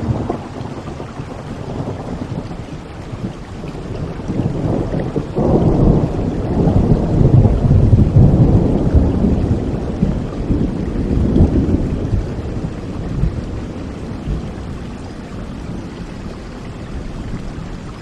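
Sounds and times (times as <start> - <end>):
thunder rolling: 0.0 - 16.4
steady rain: 0.0 - 18.0.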